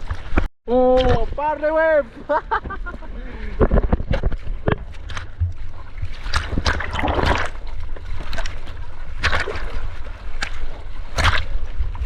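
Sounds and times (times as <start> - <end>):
seawater splashing: 0.0 - 12.0
wind and water rumble on microphone: 0.0 - 12.0.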